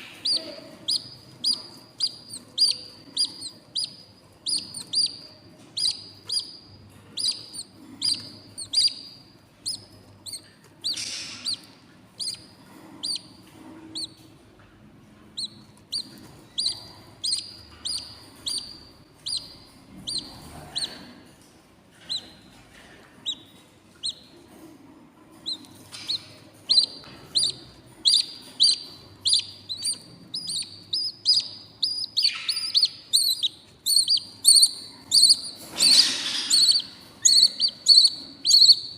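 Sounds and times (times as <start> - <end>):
chicks cheeping: 0.0 - 14.3, 15.3 - 21.3, 22.0 - 24.5, 25.4 - 38.9.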